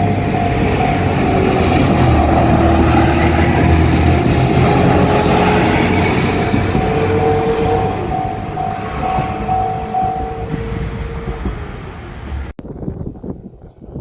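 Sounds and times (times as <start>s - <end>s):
crossing warning bell ringing: 0.0s - 12.5s
diesel railcar rumbling: 0.0s - 12.6s.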